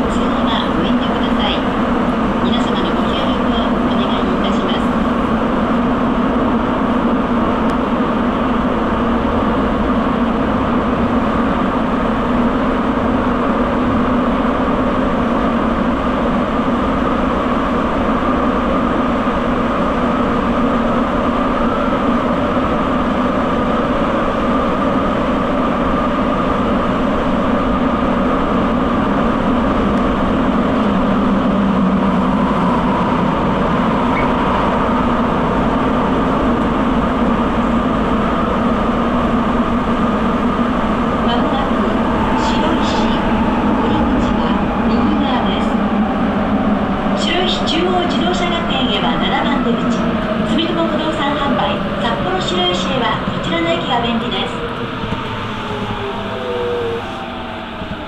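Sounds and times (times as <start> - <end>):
subway train rolling rumble: 0.0 - 58.0.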